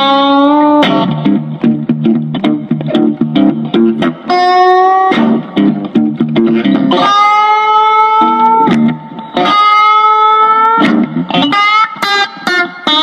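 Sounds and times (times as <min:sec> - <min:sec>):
electric guitar playing: 0:00.0 - 0:13.0.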